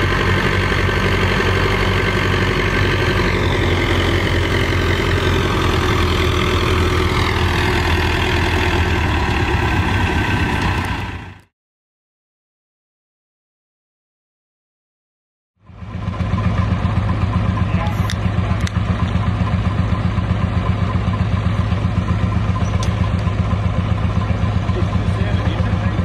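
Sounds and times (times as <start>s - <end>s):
tractor engine working: 0.0s - 11.5s, 15.6s - 26.0s.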